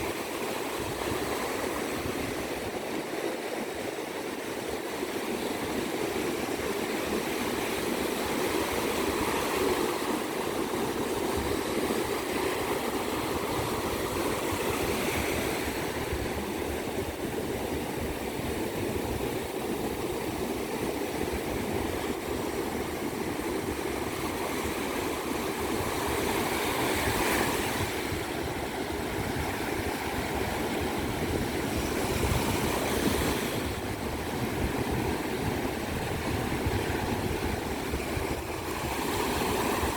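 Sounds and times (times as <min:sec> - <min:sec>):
ocean surf washing on beach: 0:00.0 - 0:39.9
waves breaking: 0:00.0 - 0:39.9.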